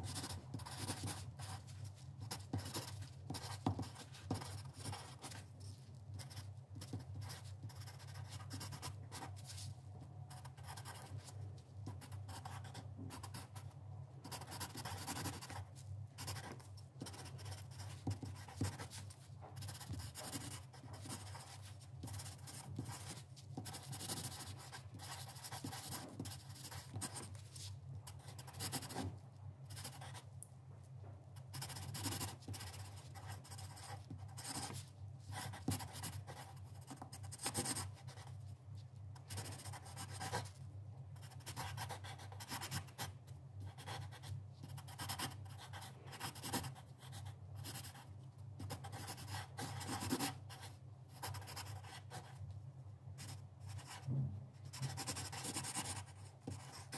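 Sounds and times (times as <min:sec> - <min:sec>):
pencil scratching on paper: 0:00.0 - 0:05.5, 0:06.2 - 0:09.7, 0:10.3 - 0:13.6, 0:14.3 - 0:29.1, 0:29.7 - 0:30.2, 0:31.5 - 0:38.3, 0:39.2 - 0:40.5, 0:41.2 - 0:43.1, 0:43.7 - 0:48.0, 0:48.6 - 0:52.4, 0:54.7 - 0:56.9
steady low hum: 0:00.0 - 0:56.9.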